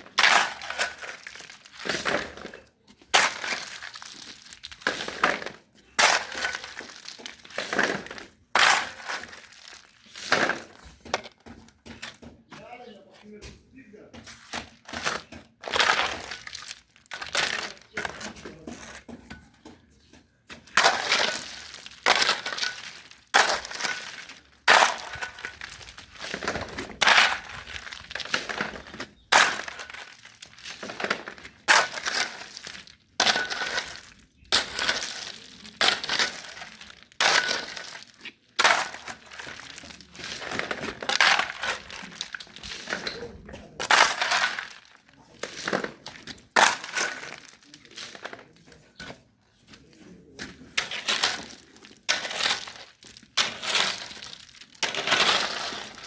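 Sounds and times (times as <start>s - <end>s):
gritty scraping strokes: 0.0s - 11.2s, 20.0s - 56.0s.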